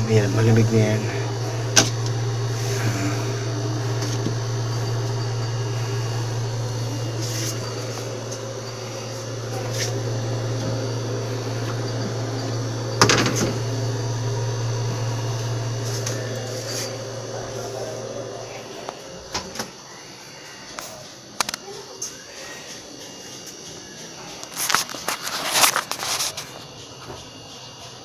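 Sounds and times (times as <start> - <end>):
compressor humming: 0.0 - 28.0.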